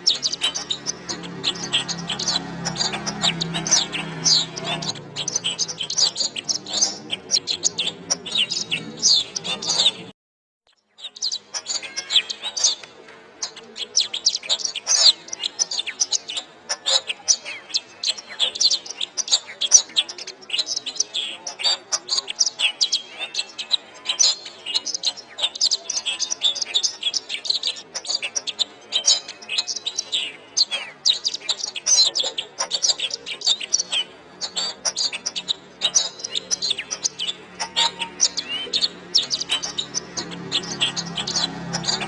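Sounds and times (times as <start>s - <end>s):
canary singing: 0.0s - 10.1s, 10.7s - 42.0s.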